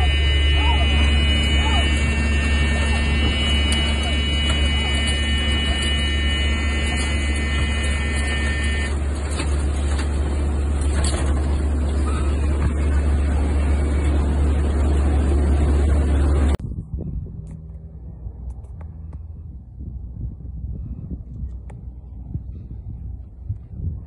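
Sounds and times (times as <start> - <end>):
high whine: 0.0 - 20.4
faint wind: 0.0 - 24.0
turboprop engine drone: 0.0 - 24.0.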